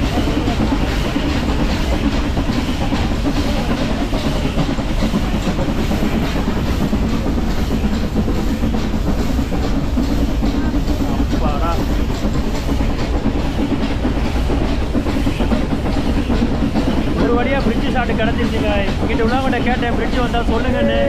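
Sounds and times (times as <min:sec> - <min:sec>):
train wheels clattering: 0:00.0 - 0:21.0.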